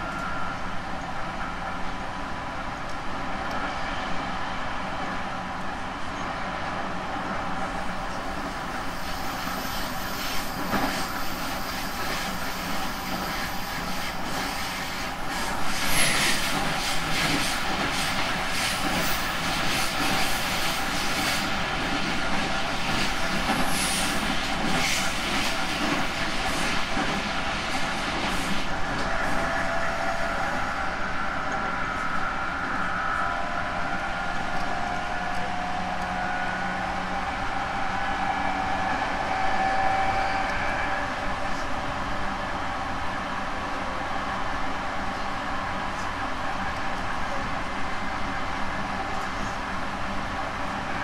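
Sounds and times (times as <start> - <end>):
train running rumble: 5.1 - 51.0.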